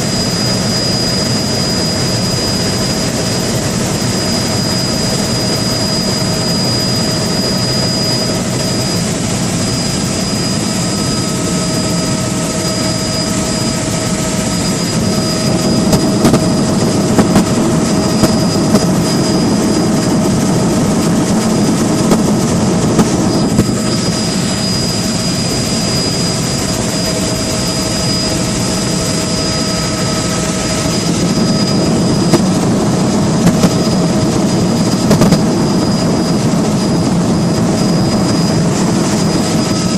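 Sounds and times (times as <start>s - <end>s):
engine drone with high whine: 0.0s - 39.9s.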